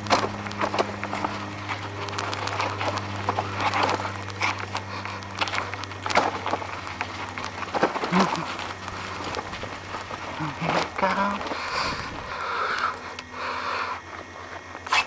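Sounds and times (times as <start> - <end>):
bicycle rattling over rocky trail: 0.0 - 13.1
steady low hum: 0.0 - 15.0.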